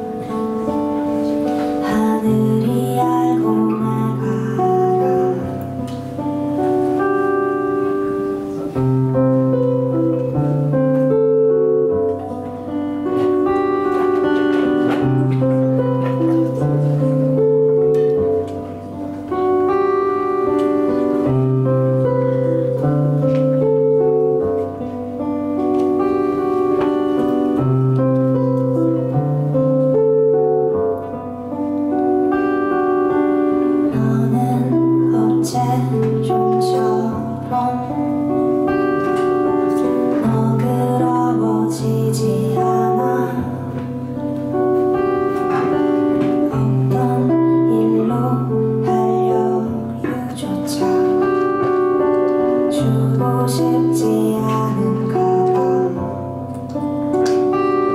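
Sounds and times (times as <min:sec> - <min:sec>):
acoustic guitar picking chords: 0:00.0 - 0:57.9.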